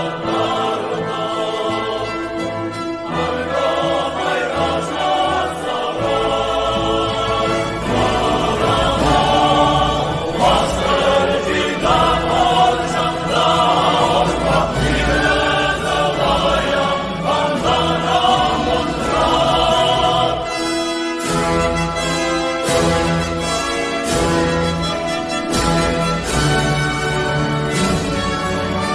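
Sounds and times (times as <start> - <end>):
choir singing held chords: 0.0 - 28.9.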